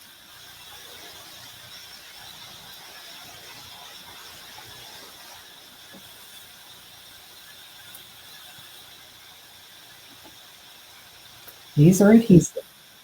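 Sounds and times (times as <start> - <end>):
room tone hiss: 0.0 - 13.0.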